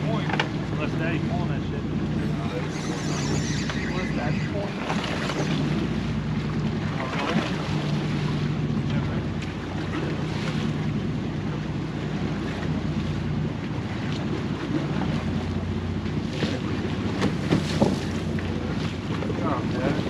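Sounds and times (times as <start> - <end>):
water washing against boat hull: 0.0 - 20.0
wind buffeting microphone: 0.0 - 20.0.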